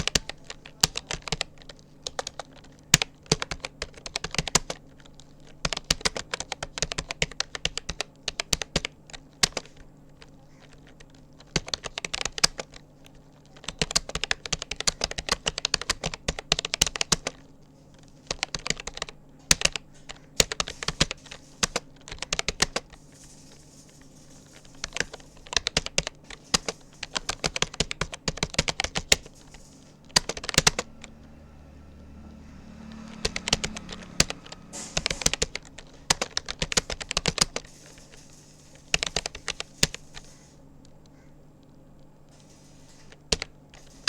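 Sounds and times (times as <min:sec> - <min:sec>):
computer keyboard key clicks: 0:00.0 - 0:17.4, 0:18.0 - 0:31.1, 0:33.0 - 0:44.0.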